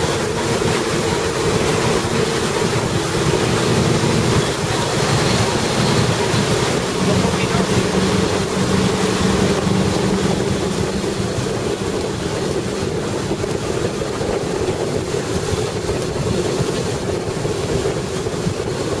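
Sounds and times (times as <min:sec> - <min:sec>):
boat engine exhaust running: 0:00.0 - 0:19.0
rush of boat wake: 0:00.0 - 0:19.0
wind on microphone: 0:00.0 - 0:19.0.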